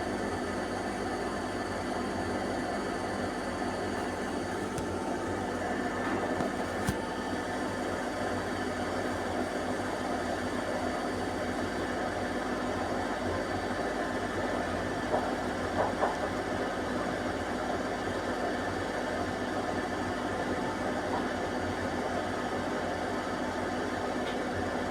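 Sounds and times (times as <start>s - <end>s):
washing machine spinning: 0.0s - 24.9s.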